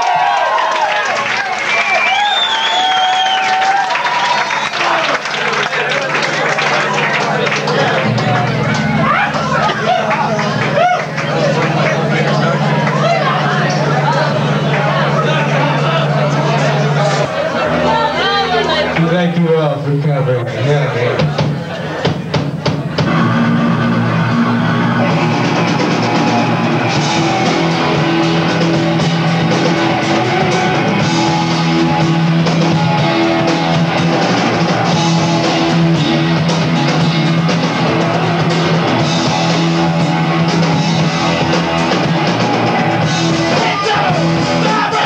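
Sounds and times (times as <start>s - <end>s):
drum kit: 1.1s - 17.3s, 21.0s - 45.0s
electric guitars: 3.1s - 19.1s, 22.6s - 45.0s.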